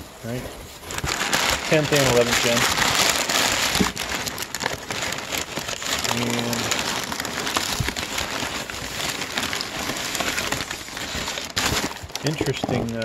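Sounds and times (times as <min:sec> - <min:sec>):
packing paper rustling: 0:00.0 - 0:13.0.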